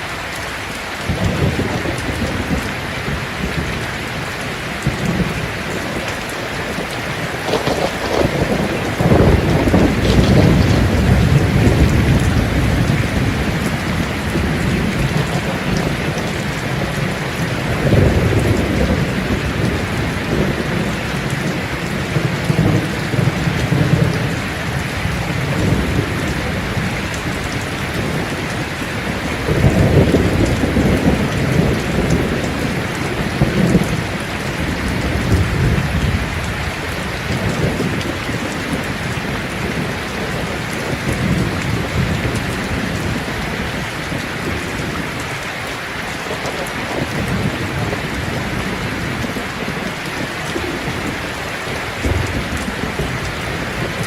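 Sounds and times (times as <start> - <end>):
steady rain falling: 0.0 - 54.0
thunder rumbling: 1.0 - 54.0.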